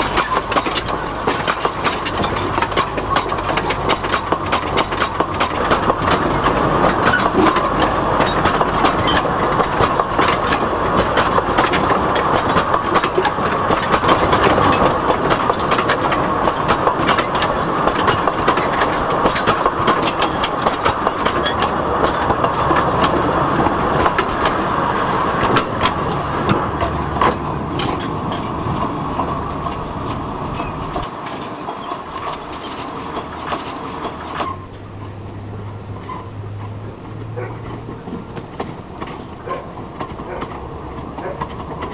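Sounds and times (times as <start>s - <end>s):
train wagons clattering over rails: 0.0s - 41.9s.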